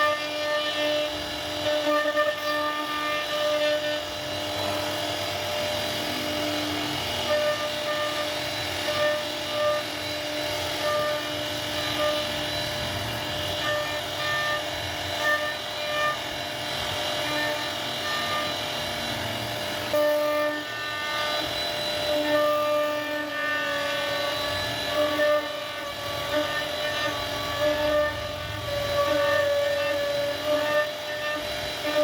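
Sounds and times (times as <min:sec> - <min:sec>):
router spindle whine: 0:00.0 - 0:32.0
stepper motor tones: 0:00.0 - 0:32.0.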